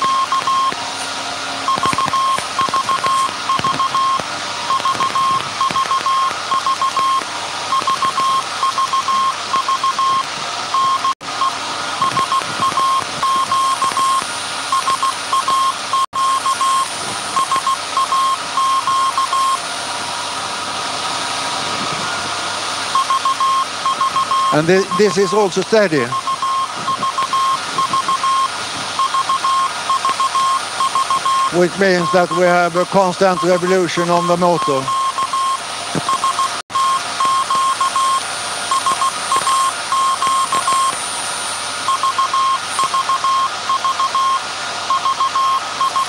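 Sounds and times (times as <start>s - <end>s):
morse code beeping tone: 0.0s - 0.8s, 1.7s - 19.6s, 22.9s - 41.0s, 41.9s - 46.0s
machine hall running noise: 0.0s - 46.0s.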